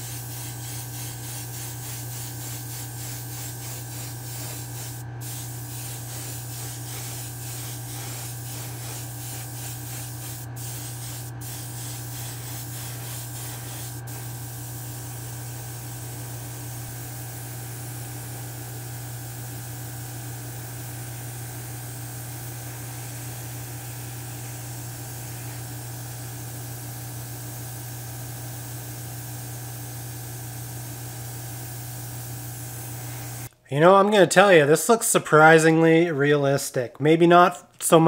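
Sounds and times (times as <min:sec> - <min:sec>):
airbrush spraying hiss: 0:00.0 - 0:33.5.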